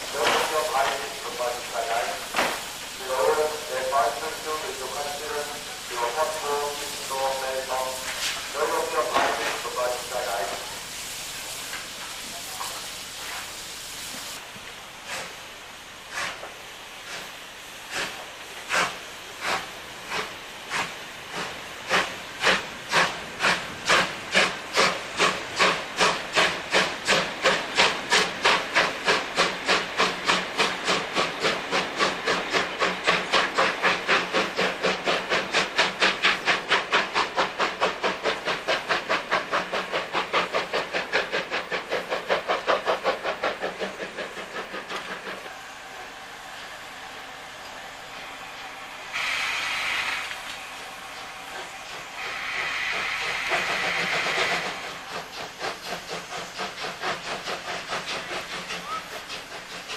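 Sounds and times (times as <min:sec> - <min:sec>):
steam locomotive exhaust chuffing: 0:00.0 - 0:59.9.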